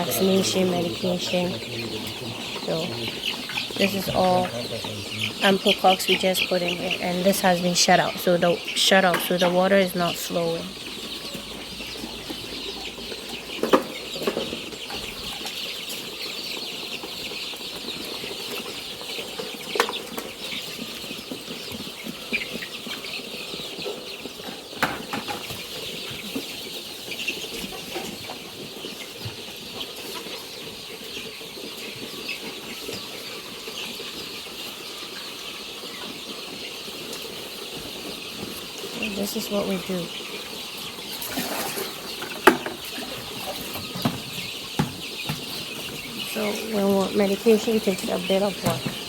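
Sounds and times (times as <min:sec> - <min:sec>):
chicks cheeping: 0:00.0 - 0:49.0.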